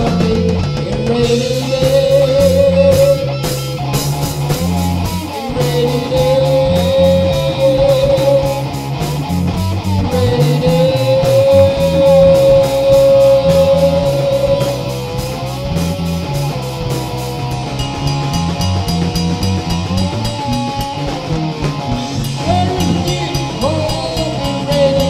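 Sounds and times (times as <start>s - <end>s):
drums: 0.0s - 25.0s
lead guitar: 0.0s - 25.0s
low guitar riff: 0.0s - 25.0s.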